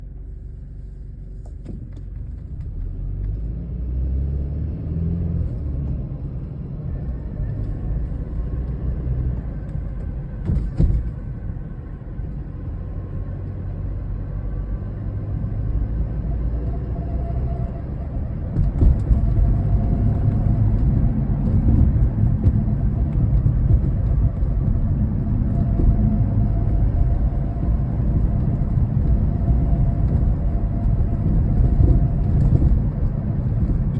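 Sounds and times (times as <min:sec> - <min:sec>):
car road rumble: 0:00.0 - 0:33.9.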